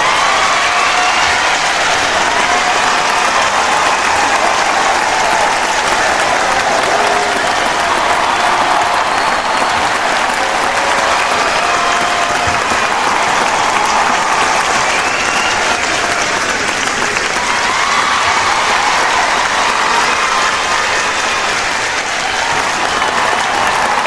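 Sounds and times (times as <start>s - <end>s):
crowd applauding: 0.0s - 24.0s
crowd cheering: 0.0s - 24.0s.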